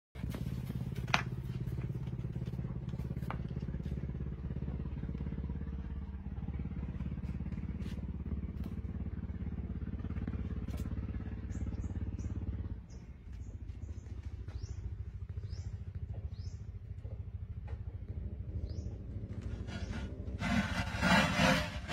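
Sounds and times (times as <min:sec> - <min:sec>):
low mechanical hum: 0:00.2 - 0:21.9.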